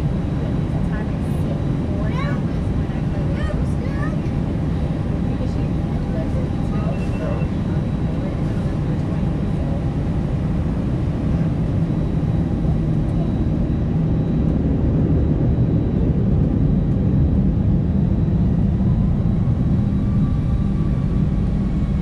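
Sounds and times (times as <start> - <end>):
faint engine whine: 0.0 - 22.0
jet engine rumble in cabin: 0.0 - 22.0.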